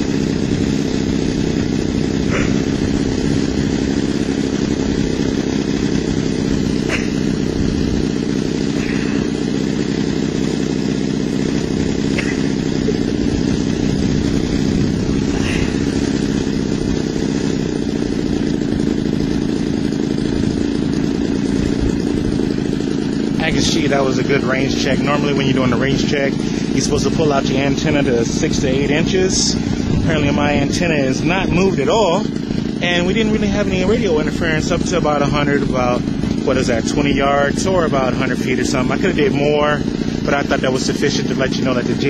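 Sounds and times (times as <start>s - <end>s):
model airplane engine idling: 0.0s - 42.0s.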